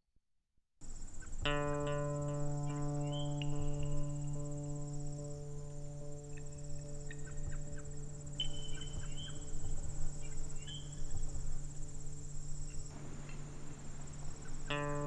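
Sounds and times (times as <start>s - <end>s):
insects chirring: 0.8s - 15.0s.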